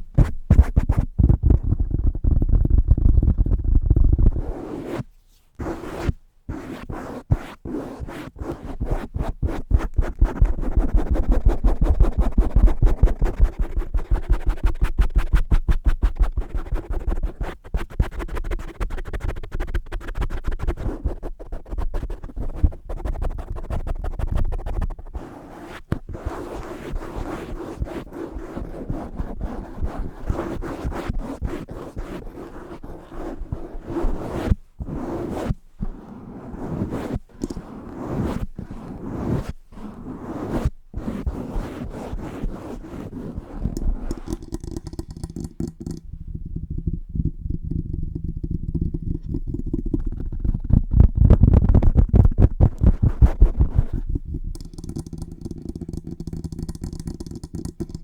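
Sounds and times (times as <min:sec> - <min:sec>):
hand tapping and scratching microphone: 0:00.0 - 0:58.0.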